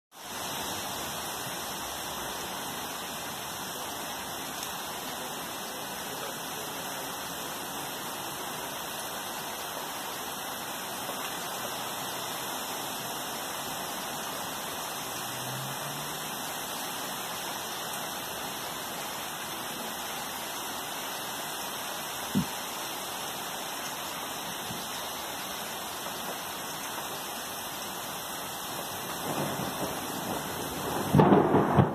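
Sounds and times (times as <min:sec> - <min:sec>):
rain on trees and pavement: 0:00.1 - 0:31.9.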